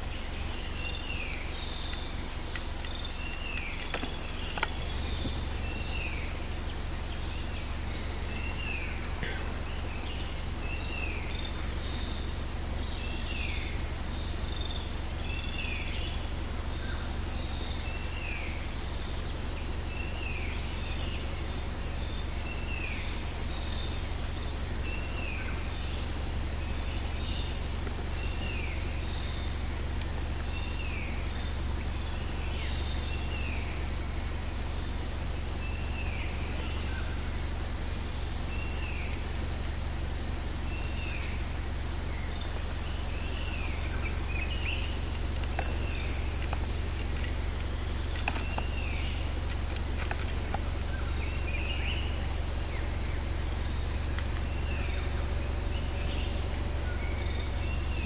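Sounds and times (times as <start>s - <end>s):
constant low rumble: 0.0s - 58.0s
high insect drone: 0.0s - 58.0s.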